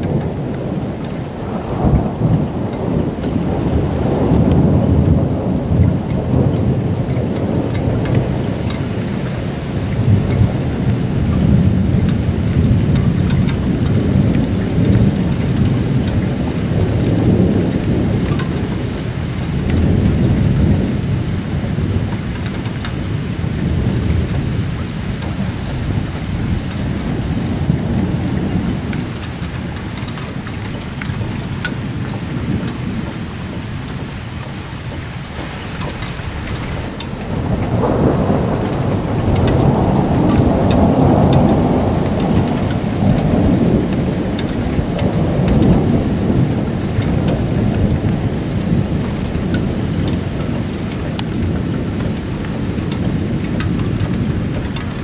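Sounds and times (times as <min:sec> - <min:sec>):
rain falling: 0:00.0 - 0:55.0
thunder rumbling: 0:00.0 - 0:55.0.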